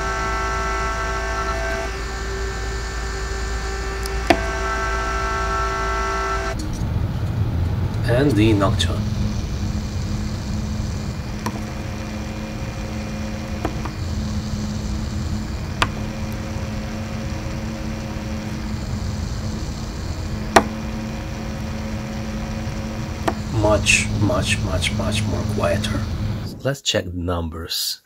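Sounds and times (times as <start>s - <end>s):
fan whirring: 0.0s - 26.7s.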